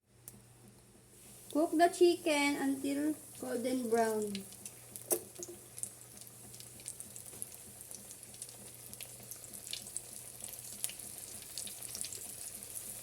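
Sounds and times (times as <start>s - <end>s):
chicken frying in oil: 1.5s - 13.0s.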